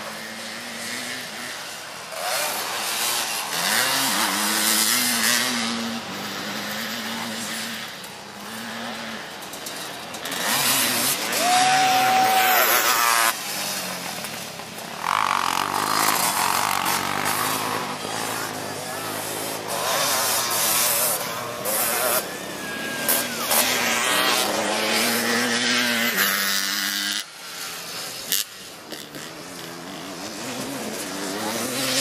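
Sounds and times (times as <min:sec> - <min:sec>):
three-wheeler engines revving: 0:00.0 - 0:32.0.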